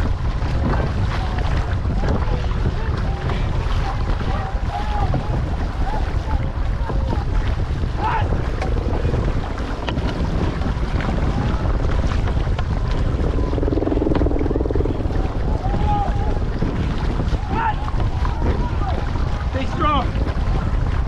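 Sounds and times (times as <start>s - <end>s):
water rushing along hull: 0.0s - 21.0s
wind buffeting microphone: 0.0s - 21.0s.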